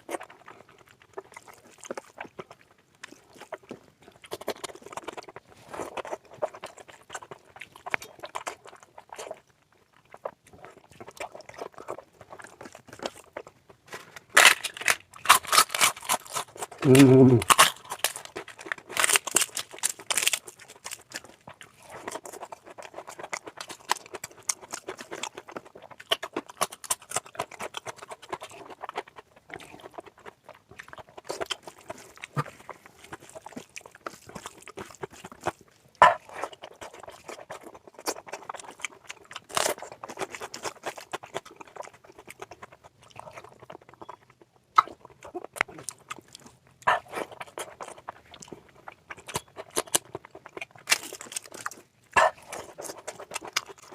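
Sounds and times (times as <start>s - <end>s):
person chewing and smacking: 0.0s - 53.9s.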